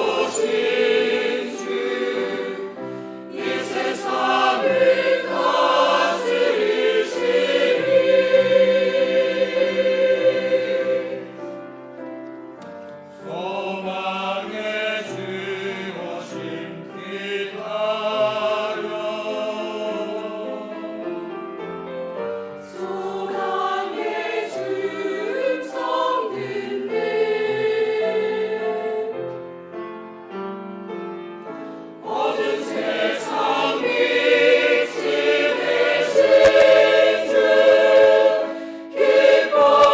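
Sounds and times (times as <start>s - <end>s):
choir singing: 0.0s - 11.7s, 13.2s - 21.1s, 22.3s - 29.4s, 31.9s - 39.9s.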